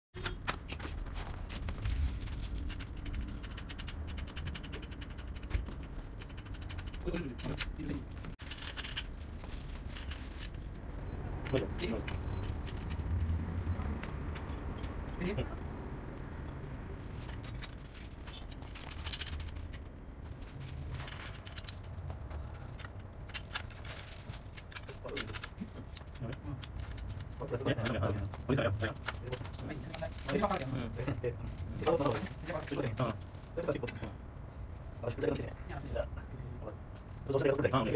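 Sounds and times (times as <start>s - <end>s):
bicycle wheel clicks and rattles: 0.2s - 15.3s, 16.1s - 34.1s.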